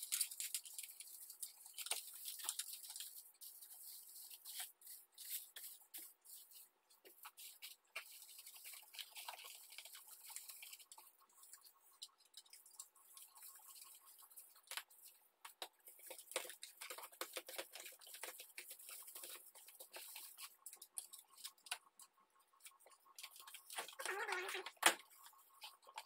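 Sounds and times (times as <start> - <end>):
aluminium foil crinkling: 0.0 - 21.8, 22.6 - 26.0.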